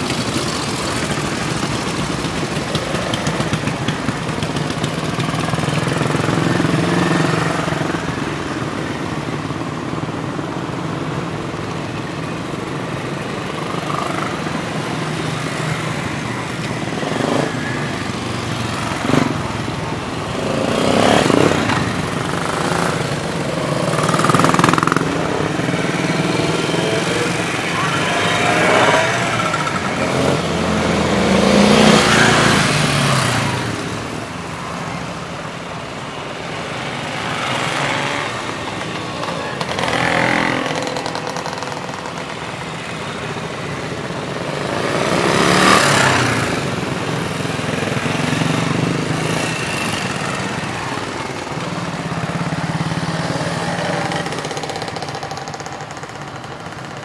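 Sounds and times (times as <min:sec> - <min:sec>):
motorcycles setting off: 0:00.0 - 0:57.0.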